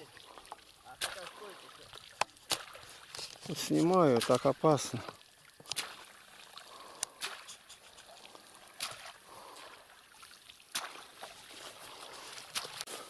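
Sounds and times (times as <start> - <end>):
short sharp water splashes: 0.0 - 13.0
water splashing and trickling: 0.0 - 13.0.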